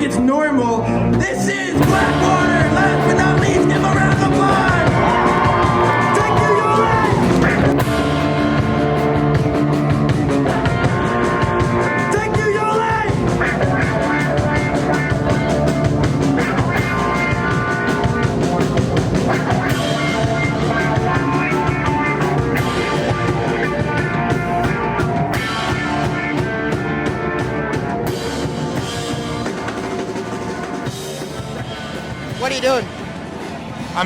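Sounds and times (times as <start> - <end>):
rock music with drums and guitars: 0.0 - 34.0.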